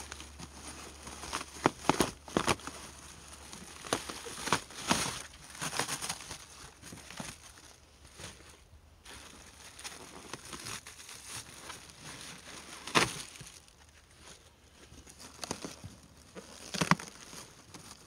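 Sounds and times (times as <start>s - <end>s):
packing rustling and crinkling: 0.0s - 18.0s.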